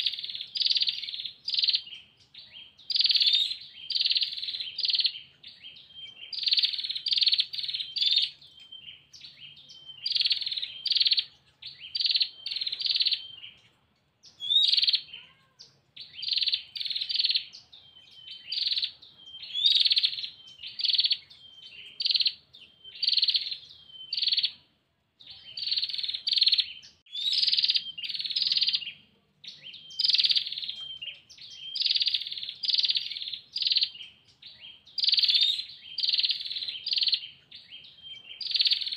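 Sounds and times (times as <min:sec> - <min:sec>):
bird dry trilling calls: 0:00.0 - 0:38.9.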